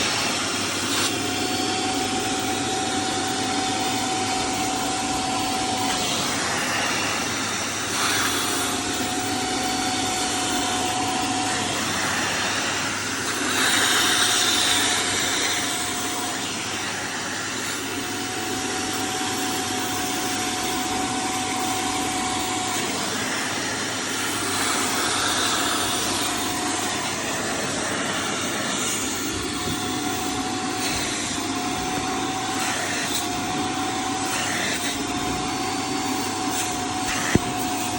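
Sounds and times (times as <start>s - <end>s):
vacuum cleaner hissing: 0.0s - 37.9s
vacuum cleaner running: 0.0s - 37.9s.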